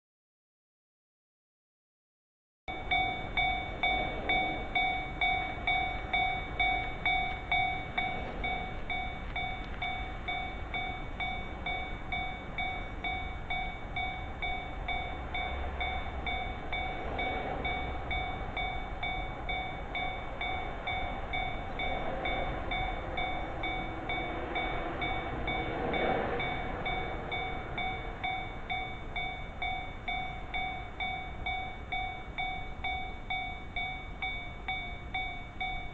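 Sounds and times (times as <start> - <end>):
level crossing bell clanging: 2.7 - 35.9
train rumbling past: 2.7 - 35.9.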